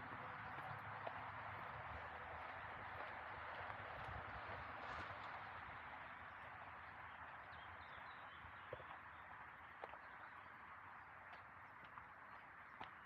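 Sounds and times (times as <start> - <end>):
soft footsteps on forest path: 0.0 - 13.0.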